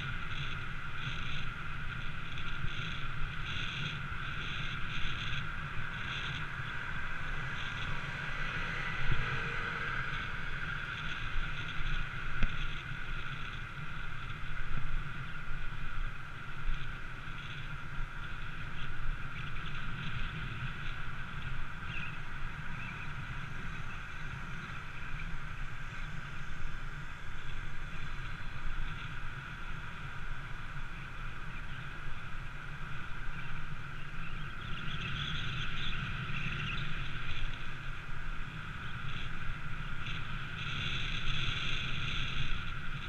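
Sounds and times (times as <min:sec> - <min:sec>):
road noise: 0:00.0 - 0:43.0
wind noise: 0:00.0 - 0:43.0.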